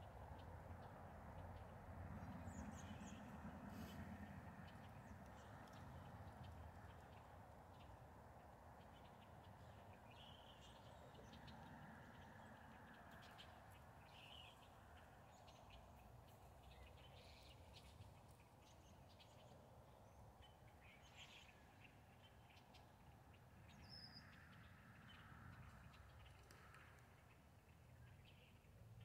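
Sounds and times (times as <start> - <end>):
faint outdoor rumble: 0.0 - 29.0.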